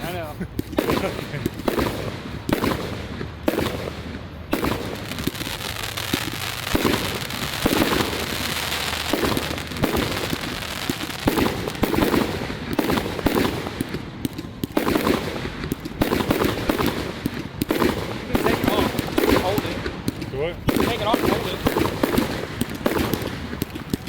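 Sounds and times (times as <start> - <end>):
fireworks crackling: 0.0 - 24.0
fireworks shells bursting: 0.0 - 24.0.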